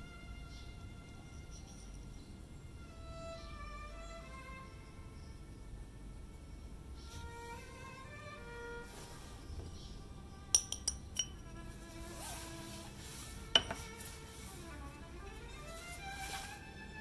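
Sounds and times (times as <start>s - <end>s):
background music of sustained notes: 0.0s - 17.0s.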